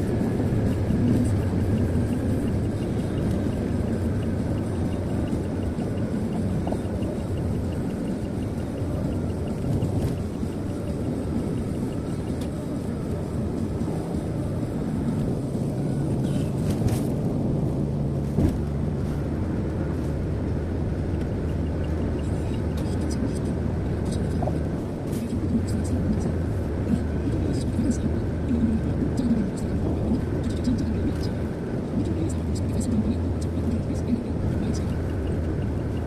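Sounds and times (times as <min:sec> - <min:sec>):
road and engine noise in car: 0:00.0 - 0:36.0.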